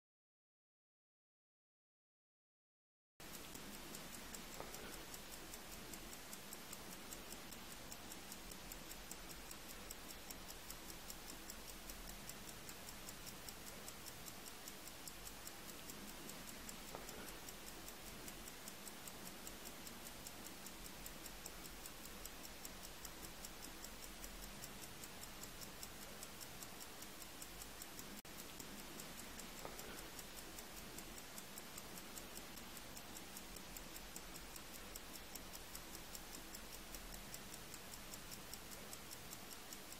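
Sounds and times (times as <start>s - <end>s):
faint steady hiss: 3.2s - 39.9s
mechanical watch ticking: 3.2s - 39.9s.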